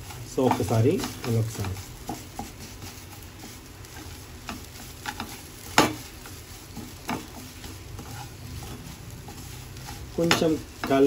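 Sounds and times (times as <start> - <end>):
low sizzle: 0.0 - 11.0
wooden spatula scraping a pan: 0.0 - 11.0.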